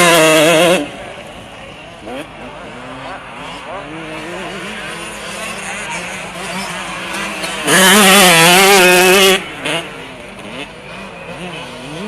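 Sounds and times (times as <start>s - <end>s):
dirt bike engine revving close: 0.0s - 1.0s, 2.0s - 12.0s
distant motocross engines: 0.0s - 12.0s.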